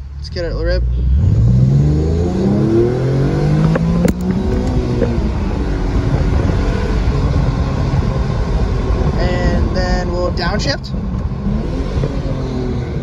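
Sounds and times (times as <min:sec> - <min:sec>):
car engine accelerating hard: 0:00.4 - 0:13.0
wind noise: 0:02.3 - 0:13.0.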